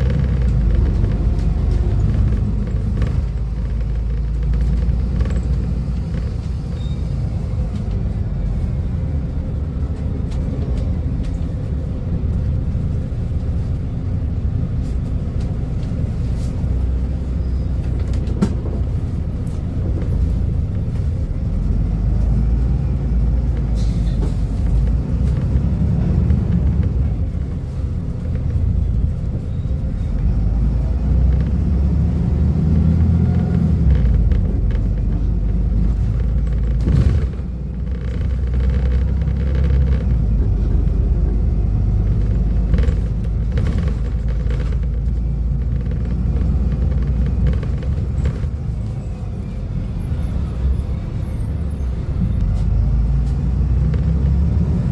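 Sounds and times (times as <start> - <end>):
diesel bus engine rumbling: 0.0 - 54.9.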